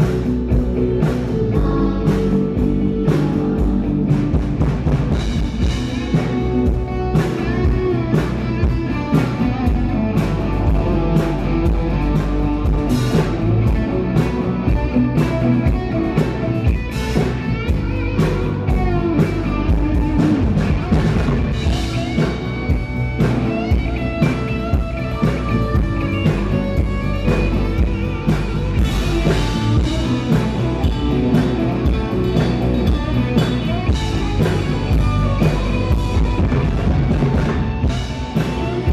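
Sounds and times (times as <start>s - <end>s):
electric guitar: 0.0s - 38.9s
steady drum beat: 0.0s - 38.9s.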